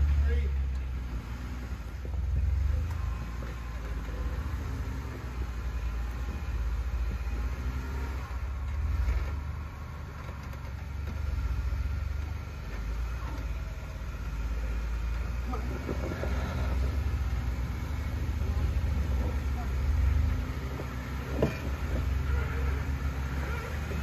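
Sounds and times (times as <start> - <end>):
engine rumbling at low revs: 0.0 - 24.0.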